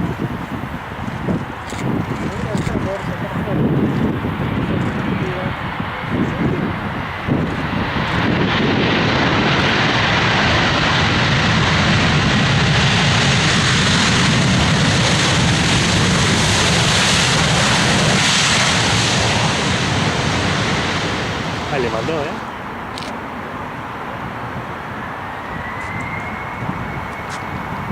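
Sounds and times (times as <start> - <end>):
airliner engines rushing: 0.0 - 27.9.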